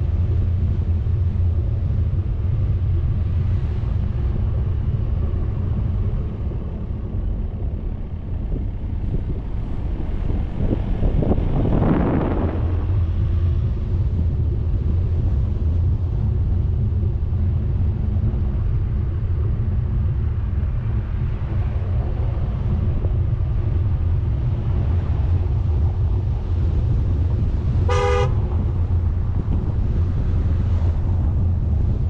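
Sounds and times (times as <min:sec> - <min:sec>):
engine and road rumble: 0:00.0 - 0:32.0
wind noise: 0:00.0 - 0:32.0.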